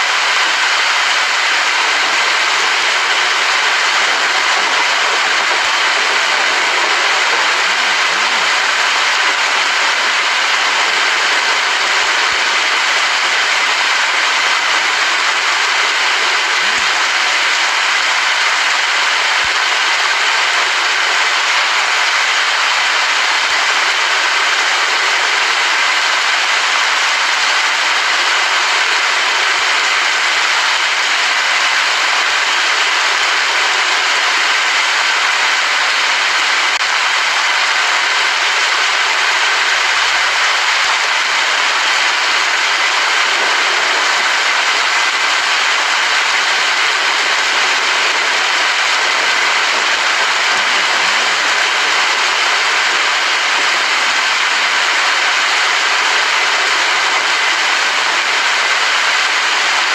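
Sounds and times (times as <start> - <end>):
loud steady rain: 0.0 - 59.9.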